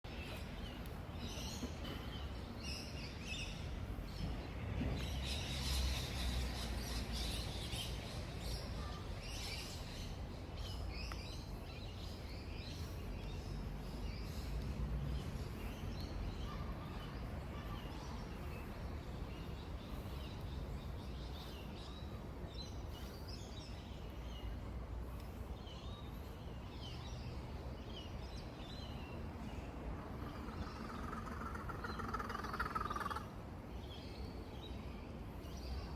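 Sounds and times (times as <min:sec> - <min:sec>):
birds chirping: 0:00.1 - 0:35.9
low outdoor background rumble: 0:00.1 - 0:35.9.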